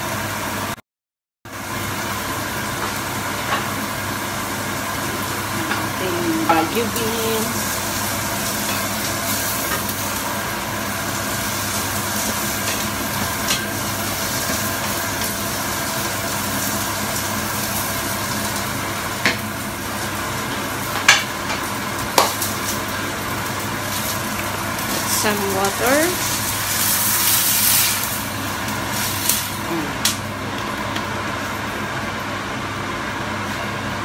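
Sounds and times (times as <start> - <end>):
vegetables sizzling in frying pan: 1.5 - 34.0.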